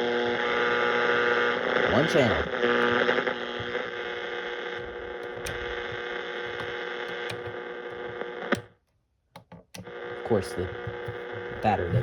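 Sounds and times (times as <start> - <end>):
held radio tones: 0.0 - 8.6, 9.8 - 12.0
radio static and hum: 0.0 - 8.7, 9.8 - 12.0.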